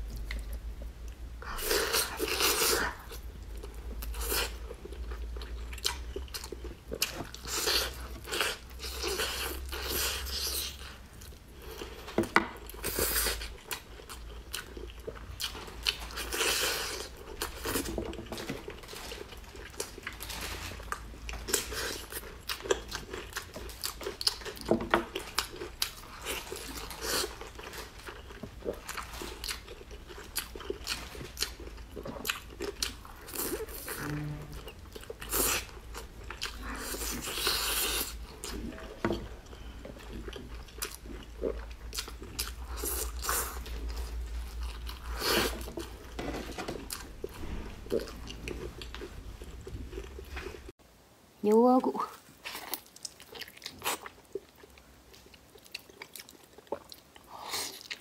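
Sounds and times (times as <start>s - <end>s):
person chewing meat off bones: 0.0s - 34.0s, 34.6s - 50.8s, 52.4s - 58.0s.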